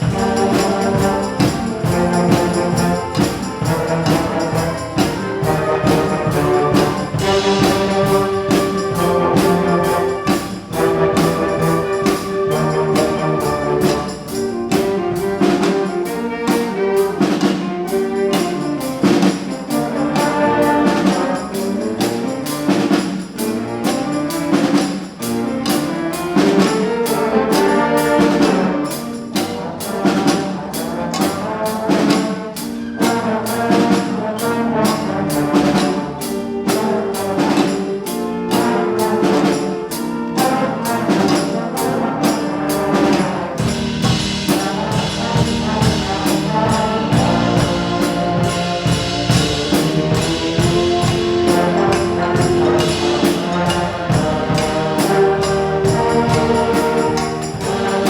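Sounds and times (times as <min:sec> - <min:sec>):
drum kit beat: 0:00.0 - 0:58.0
trumpets and trombones: 0:00.0 - 0:58.0.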